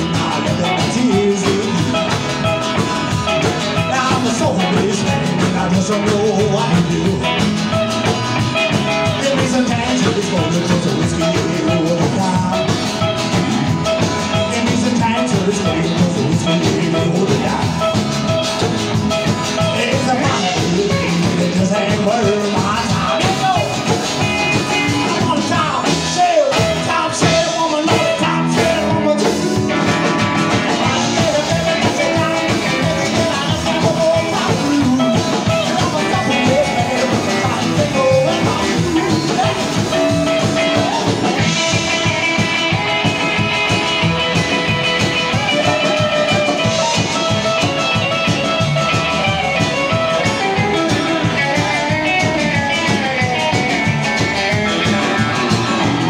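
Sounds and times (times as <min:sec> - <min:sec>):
country-rock band playing: 0:00.0 - 0:56.0.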